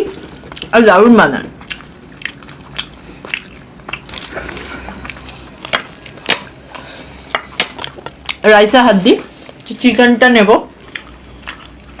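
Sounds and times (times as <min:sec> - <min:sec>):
crunching and chewing crisp food: 0:00.0 - 0:08.5, 0:10.6 - 0:12.0.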